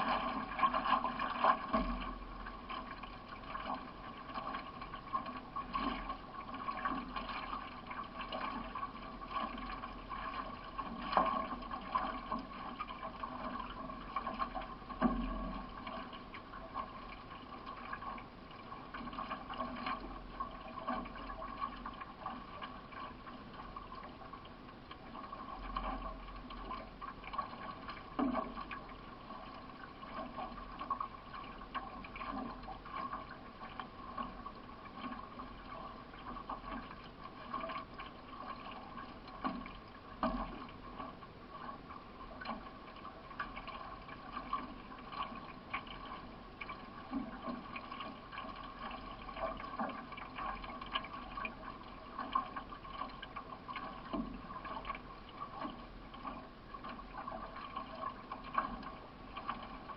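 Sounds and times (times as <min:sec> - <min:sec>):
paddle stroke splashes: 0:00.0 - 0:59.9
water gurgling against hull: 0:00.0 - 0:59.9.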